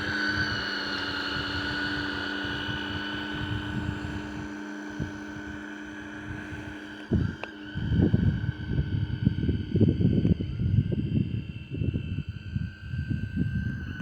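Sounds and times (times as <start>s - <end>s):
electric boat motor whining: 0.0s - 14.0s.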